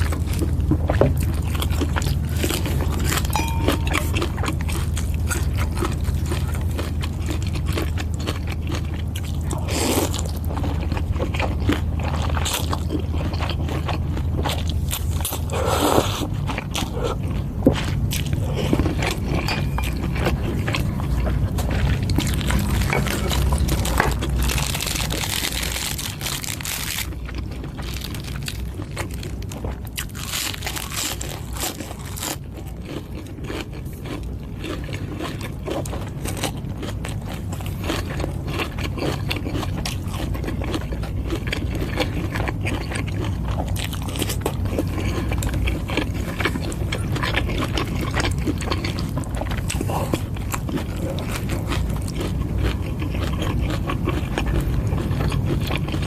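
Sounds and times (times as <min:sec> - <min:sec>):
chewing and crunching: 0:00.0 - 0:56.0
steady low hum: 0:00.0 - 0:56.0.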